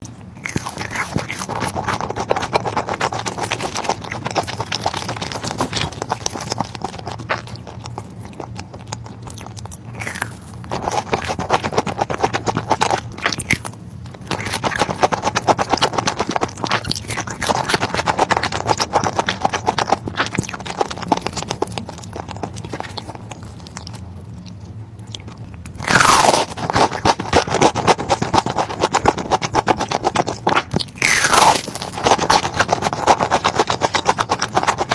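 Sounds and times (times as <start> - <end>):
crunchy chewing: 0.0 - 34.9.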